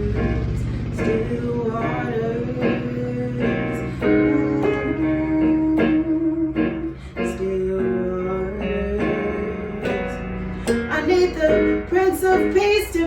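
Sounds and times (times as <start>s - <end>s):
guitar-led worship music: 0.0s - 13.0s.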